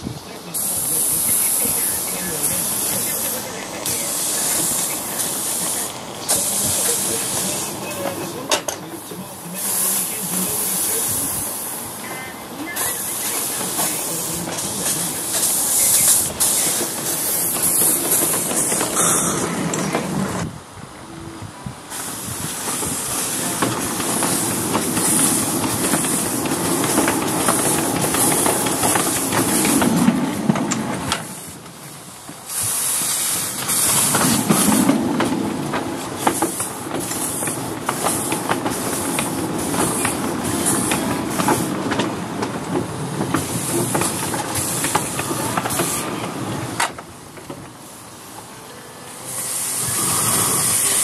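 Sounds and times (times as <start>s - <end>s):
rail wheels rumbling and clicking: 0.0s - 51.0s
steam hissing: 0.3s - 20.4s, 21.8s - 51.0s.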